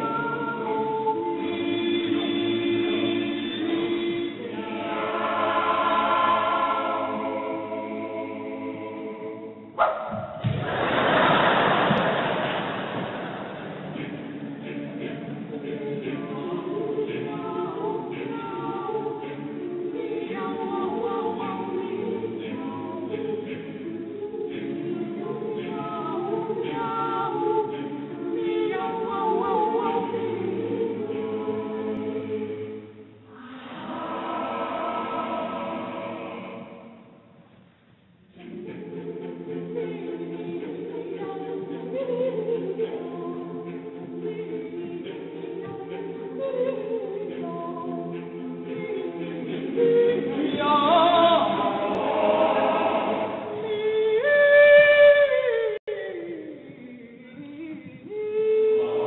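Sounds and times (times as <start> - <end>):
choir singing a cappella: 0.0 - 9.8, 10.7 - 37.4, 38.3 - 59.0.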